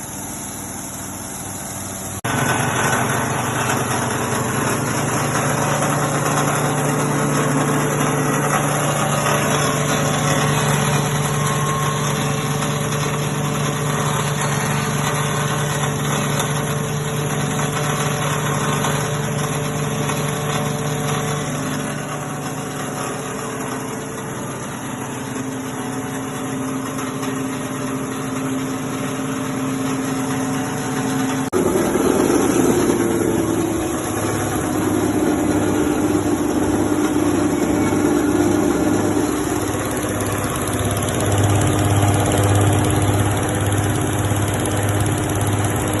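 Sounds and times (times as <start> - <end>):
machine humming and pulsing: 0.0 - 46.0.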